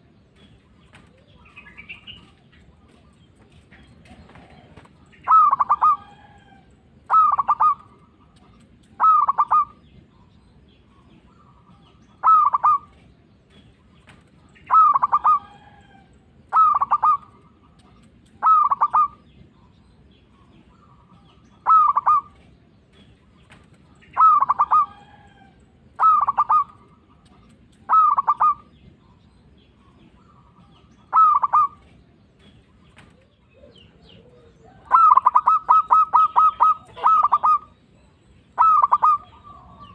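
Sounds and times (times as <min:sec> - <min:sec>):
dove cooing: 0:00.9 - 0:09.9, 0:11.3 - 0:13.1, 0:14.5 - 0:19.2, 0:20.7 - 0:22.6, 0:23.5 - 0:28.9, 0:29.8 - 0:32.0, 0:32.9 - 0:39.9.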